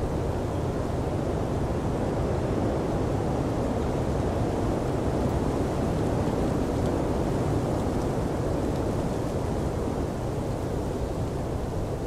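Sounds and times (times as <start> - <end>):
blizzard wind blowing: 0.0 - 12.0.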